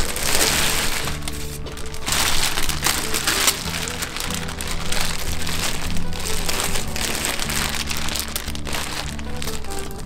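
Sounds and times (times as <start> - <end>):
background music: 0.0 - 10.0
plastic bag crinkling: 0.0 - 10.0.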